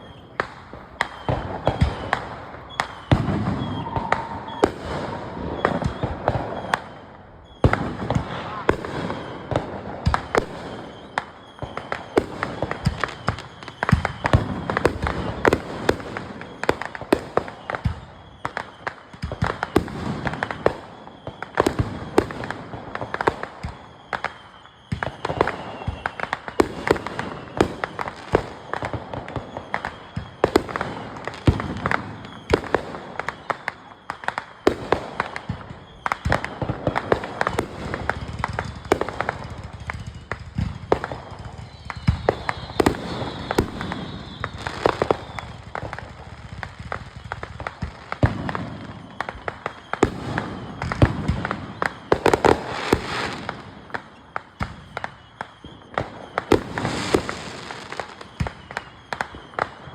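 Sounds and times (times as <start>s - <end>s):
fireworks and firecrackers banging: 0.0s - 59.9s.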